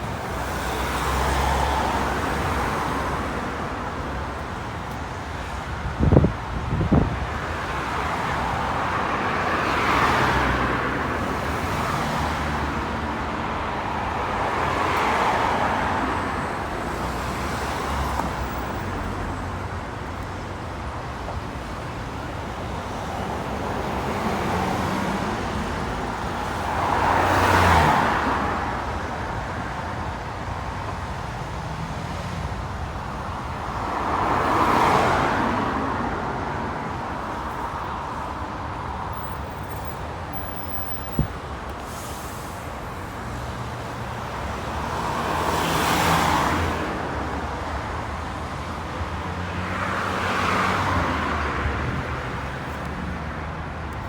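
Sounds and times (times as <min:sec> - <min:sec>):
steady tyre and engine noise: 0:00.0 - 0:54.0
vehicles passing by: 0:00.0 - 0:54.0.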